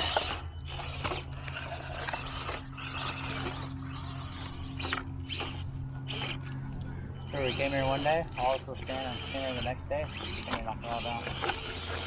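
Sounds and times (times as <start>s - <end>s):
rc crawler scraping over rocks: 0.0s - 12.0s
steady low hum: 0.0s - 12.0s.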